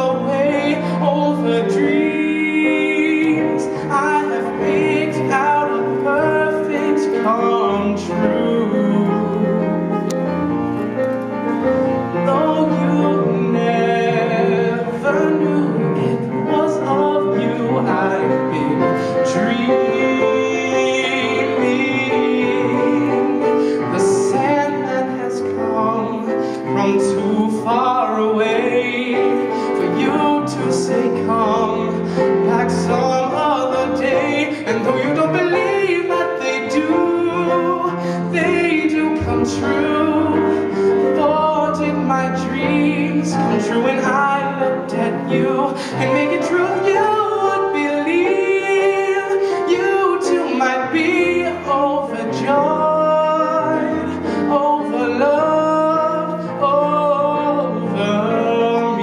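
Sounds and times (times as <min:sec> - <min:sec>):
orchestra playing slow ballad: 0:00.0 - 0:59.0
piano sustained chords: 0:00.0 - 0:59.0.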